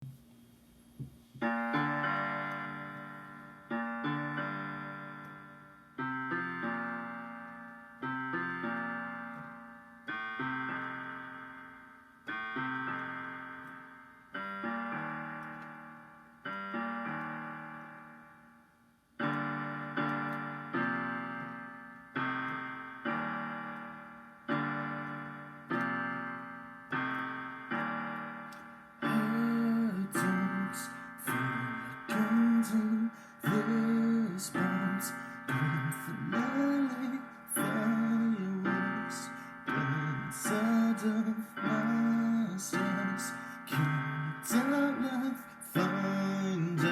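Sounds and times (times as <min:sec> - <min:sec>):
piano chords ringing: 0:01.3 - 0:46.9.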